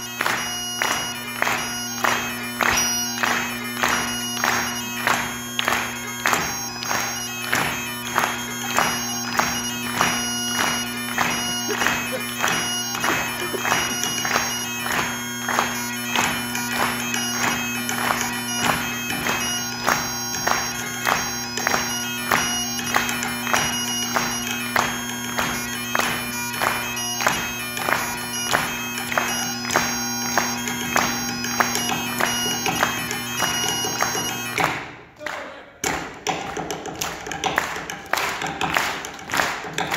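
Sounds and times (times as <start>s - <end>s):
bagpipes playing: 0.0s - 35.0s
drum beat: 0.0s - 35.0s.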